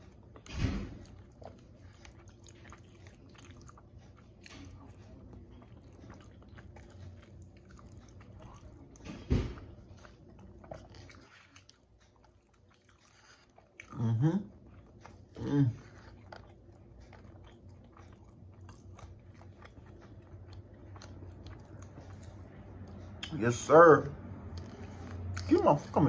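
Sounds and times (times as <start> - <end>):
man chewing food: 0.0 - 26.0.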